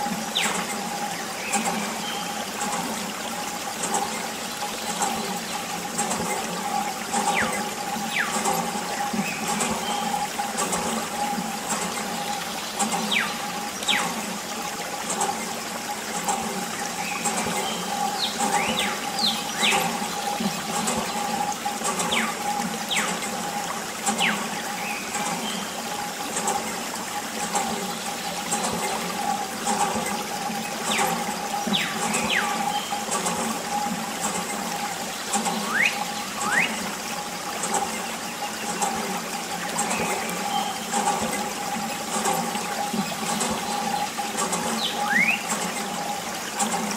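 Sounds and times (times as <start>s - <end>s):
small water pump humming: 0.0s - 46.9s
water trickling and splashing: 0.0s - 46.9s.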